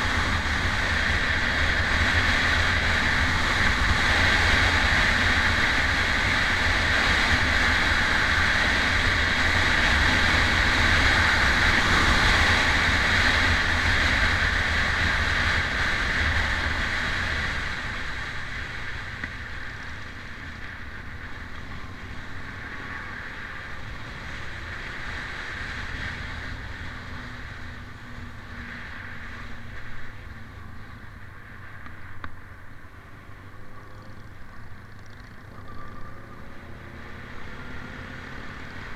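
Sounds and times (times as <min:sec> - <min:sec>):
wind rush over microphone: 0:00.0 - 0:32.8
motorcycle engine hum: 0:00.0 - 0:38.9.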